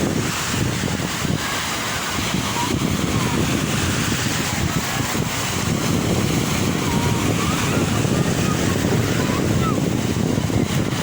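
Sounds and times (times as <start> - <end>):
sea waves washing in: 0.0 - 11.0
wind buffeting microphone: 0.0 - 11.0.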